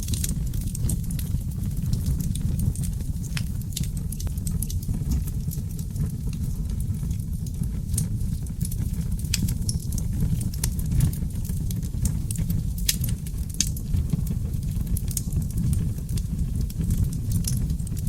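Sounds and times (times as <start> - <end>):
flames rumbling in a fireplace: 0.0 - 18.0
logs crackling and popping: 0.0 - 18.0.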